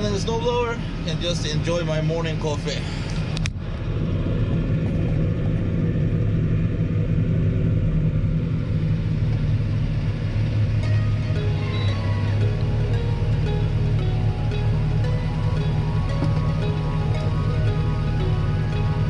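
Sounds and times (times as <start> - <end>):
tractor engine under load: 2.4 - 19.0.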